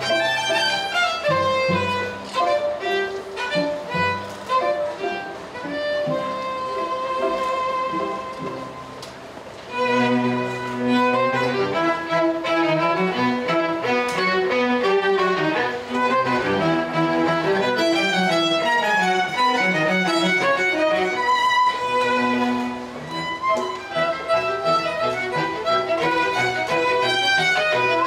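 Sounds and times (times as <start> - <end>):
string and piano ensemble: 0.0 - 28.0
violin melody: 0.0 - 28.0.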